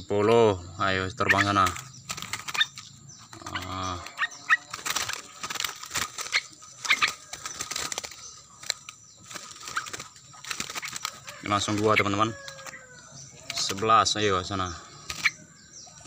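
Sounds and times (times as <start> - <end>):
bird wings fluttering: 1.4 - 14.0, 15.0 - 15.4.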